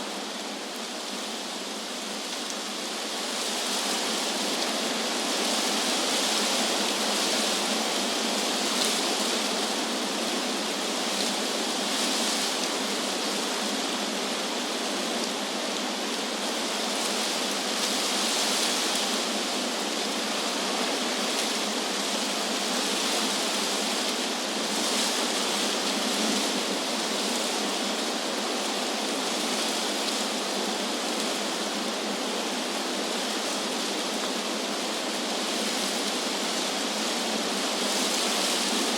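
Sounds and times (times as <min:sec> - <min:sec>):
wind rustling leaves: 0:00.0 - 0:38.9.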